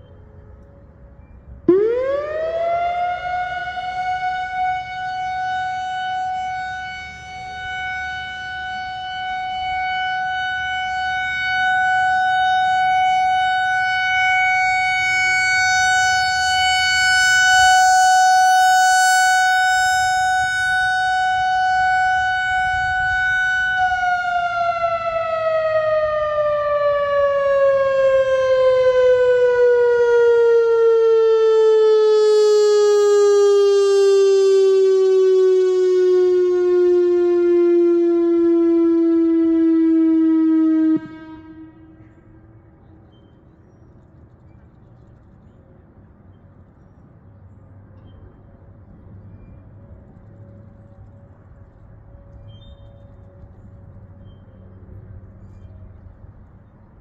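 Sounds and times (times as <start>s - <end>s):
warning siren wailing: 0.0s - 42.9s, 48.4s - 57.0s.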